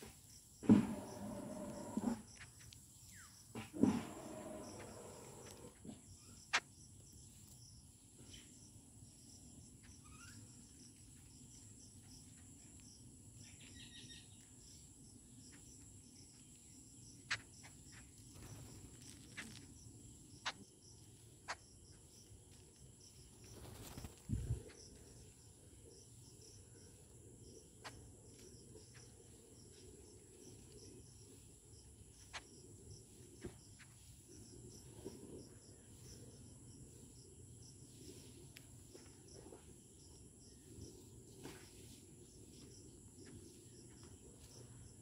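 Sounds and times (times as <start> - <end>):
birds pecking grains on concrete: 0.0 - 45.0
insects chirring: 0.0 - 45.0.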